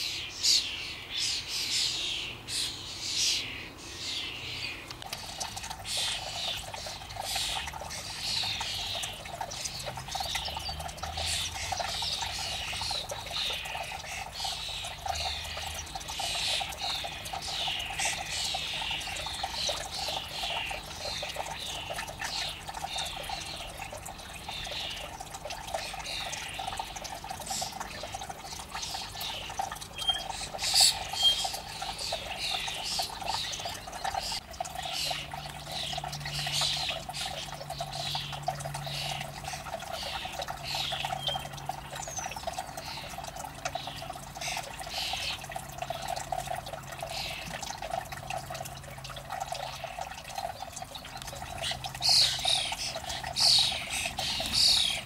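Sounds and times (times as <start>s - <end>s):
starlings chattering: 0.0s - 46.2s, 49.6s - 55.0s.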